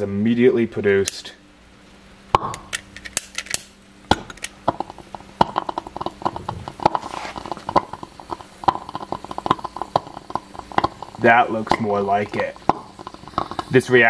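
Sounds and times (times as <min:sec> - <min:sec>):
crackling and popping: 0:01.8 - 0:14.0.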